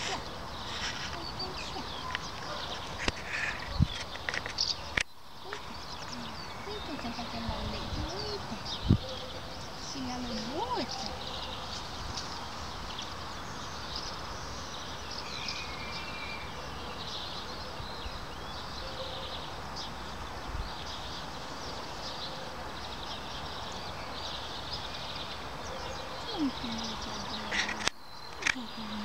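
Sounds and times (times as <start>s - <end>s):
small birds chirping: 0.0s - 29.0s
steady outdoor hiss: 0.0s - 29.0s.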